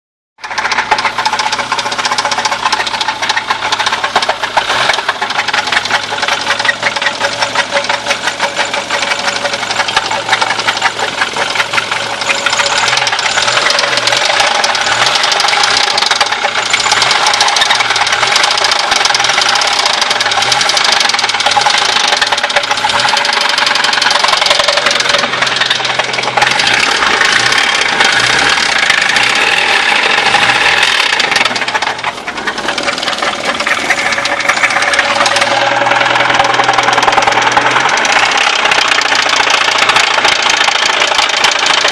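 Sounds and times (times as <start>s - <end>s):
car engine running: 0.4s - 41.9s
rapid engine knocking: 0.4s - 41.9s.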